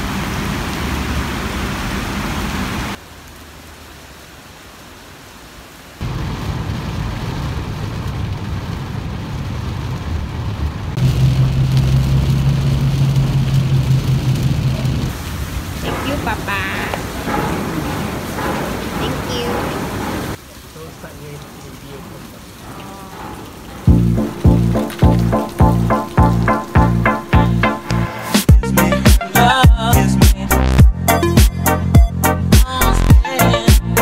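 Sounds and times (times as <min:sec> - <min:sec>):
rain on a car roof from inside: 0:00.0 - 0:32.0
heavy rain on wet paving: 0:00.0 - 0:34.0.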